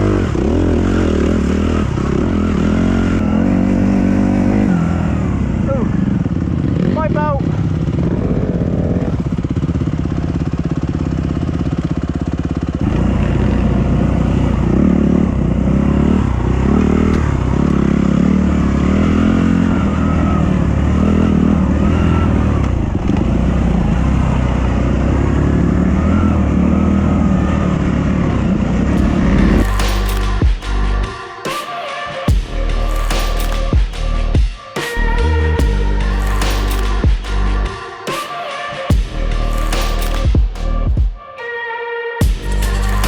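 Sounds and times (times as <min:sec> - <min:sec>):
dirt bike engine revving: 0:00.0 - 0:38.3, 0:38.9 - 0:41.0, 0:42.2 - 0:43.0.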